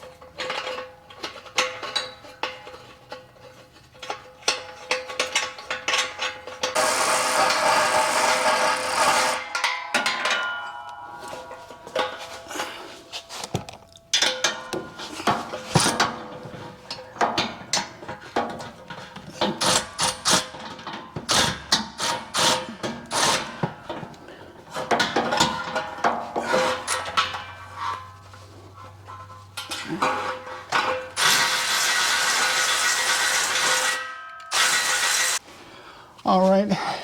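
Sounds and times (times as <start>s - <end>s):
metal clanks of exhaust muffler: 0.0s - 35.1s.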